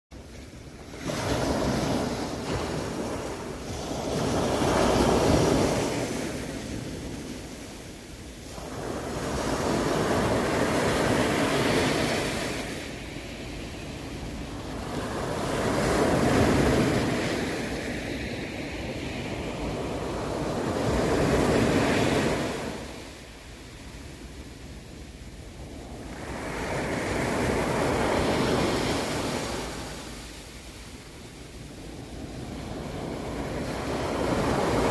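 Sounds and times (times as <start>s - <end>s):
sea waves breaking on shore: 0.2s - 34.9s.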